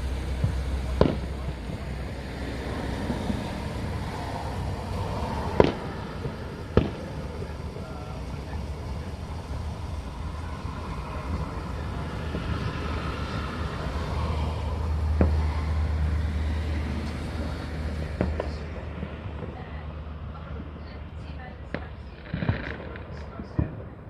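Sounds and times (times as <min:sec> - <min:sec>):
firework bangs: 0:00.0 - 0:24.0
steady low rumble: 0:00.0 - 0:24.0.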